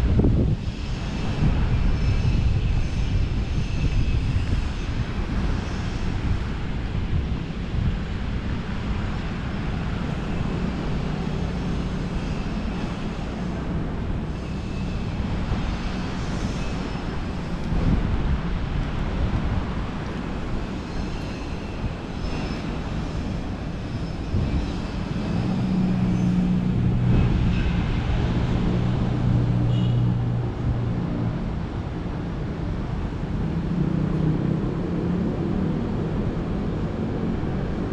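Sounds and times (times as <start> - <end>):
city traffic rumble: 0.0 - 37.9.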